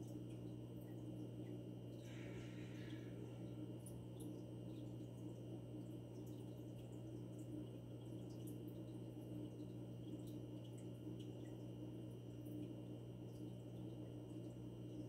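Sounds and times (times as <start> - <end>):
aquarium equipment hum: 0.0 - 15.0
water trickling and dripping: 0.0 - 15.0.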